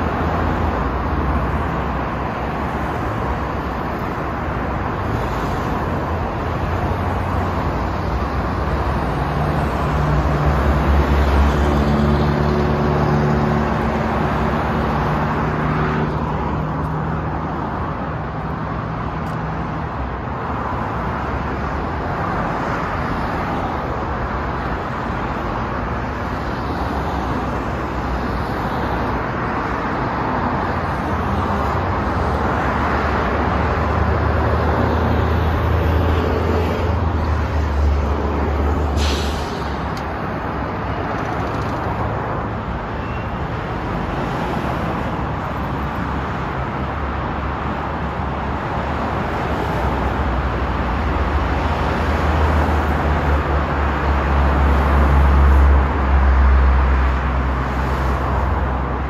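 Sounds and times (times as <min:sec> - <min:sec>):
road traffic rushing: 0:00.0 - 0:59.0.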